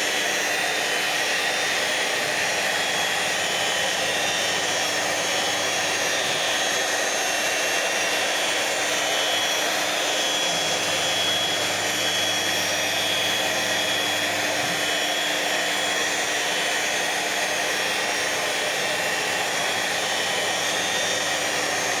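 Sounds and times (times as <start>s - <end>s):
cnc router whining: 0.0s - 22.0s.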